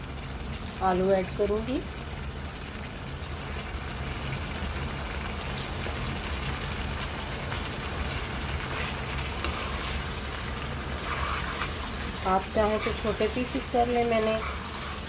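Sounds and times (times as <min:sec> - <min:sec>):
curry sizzling in a wok: 0:00.0 - 0:15.0.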